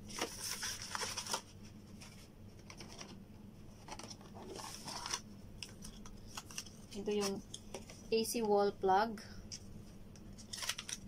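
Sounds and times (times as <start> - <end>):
cardboard and paper rustling: 0.0 - 8.2, 10.3 - 11.0.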